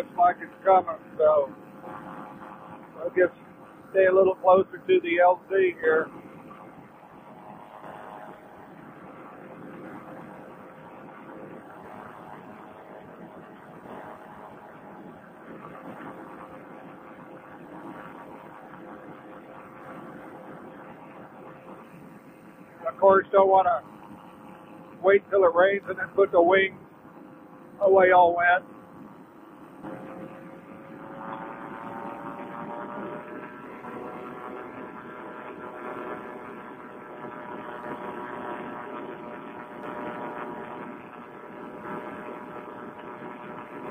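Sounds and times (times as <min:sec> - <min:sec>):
wind rush: 0:00.0 - 0:40.4
engine and propeller running: 0:00.0 - 0:43.9.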